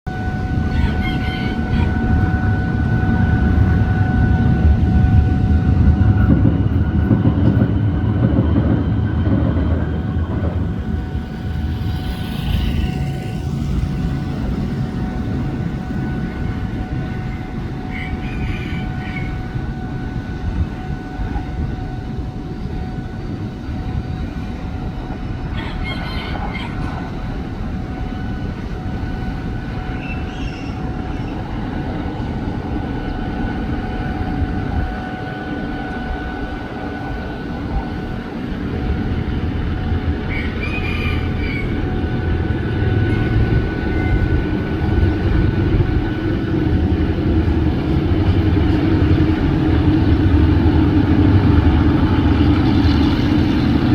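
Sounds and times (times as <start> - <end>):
locomotive engine rumble: 0.1 - 53.9.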